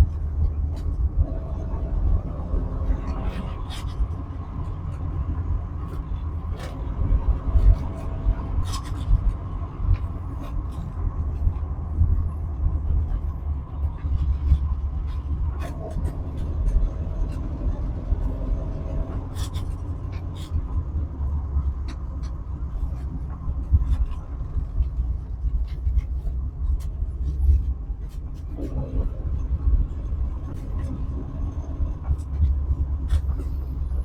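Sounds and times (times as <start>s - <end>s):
car engine and road rumble: 0.0s - 34.0s.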